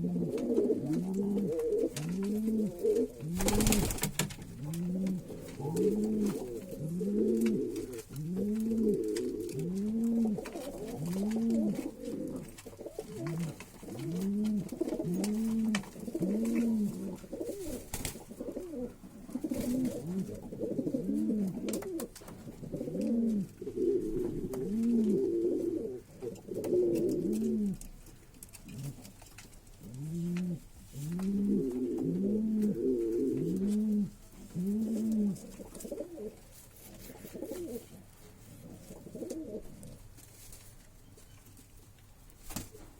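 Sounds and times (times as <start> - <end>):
higher pigeon coos: 0.0 - 27.9, 29.8 - 38.0, 38.6 - 40.0
pigeons cooing low: 0.0 - 27.9, 29.8 - 40.0.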